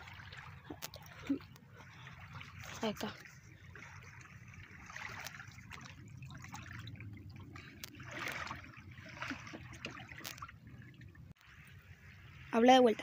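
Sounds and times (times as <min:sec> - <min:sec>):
small splashes in water: 0:00.0 - 0:12.6
river water trickling and lapping: 0:00.0 - 0:13.0.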